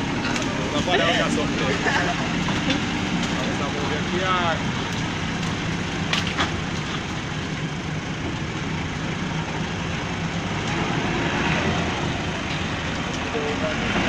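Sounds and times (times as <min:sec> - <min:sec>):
road noise: 0:00.0 - 0:14.0
vehicle engine: 0:00.0 - 0:14.0.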